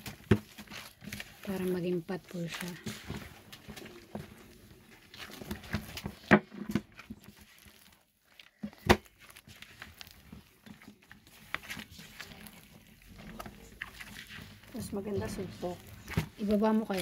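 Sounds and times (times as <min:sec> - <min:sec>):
hands kneading dough in a bowl: 0:00.0 - 0:17.0.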